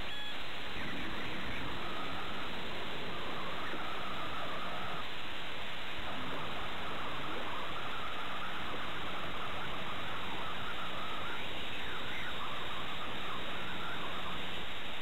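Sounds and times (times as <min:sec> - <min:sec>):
faint chirps and trills: 0:00.0 - 0:15.0
steady hiss: 0:00.0 - 0:15.0.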